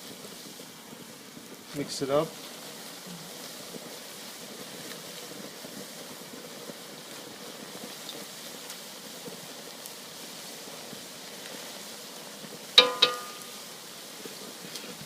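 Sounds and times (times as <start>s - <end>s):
noodles sizzling in hot oil: 0.0s - 15.0s.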